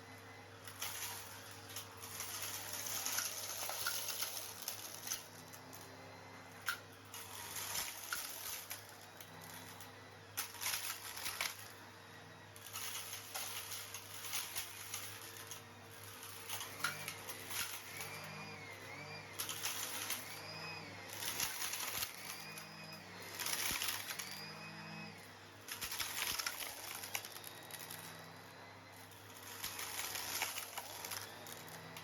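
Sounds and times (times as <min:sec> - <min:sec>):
vacuum cleaner motor: 0:00.0 - 0:32.0
stones rattling up a hose: 0:00.7 - 0:11.8, 0:12.5 - 0:32.0.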